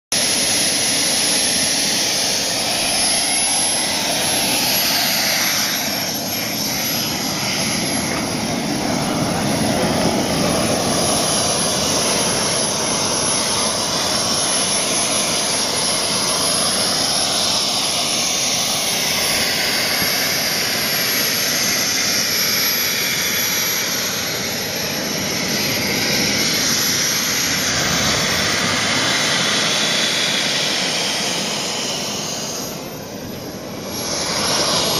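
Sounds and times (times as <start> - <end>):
model jet turbine engine running: 0.1 - 34.9.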